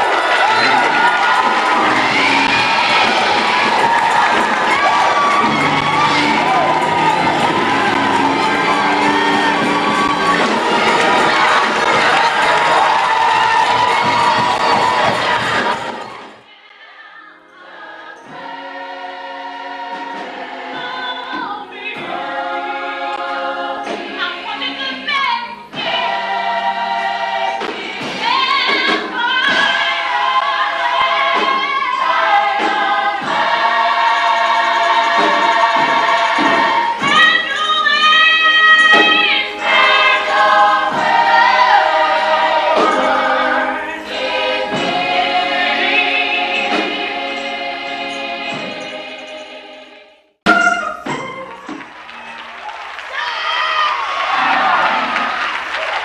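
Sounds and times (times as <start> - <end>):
gospel choir singing: 0.0 - 52.2, 53.2 - 56.0.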